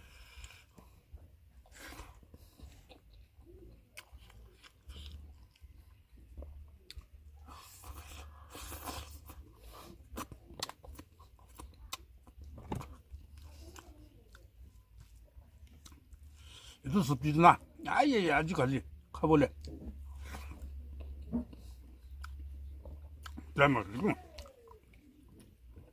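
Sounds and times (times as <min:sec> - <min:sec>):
person chewing food: 0:00.0 - 0:16.8, 0:19.5 - 0:25.9.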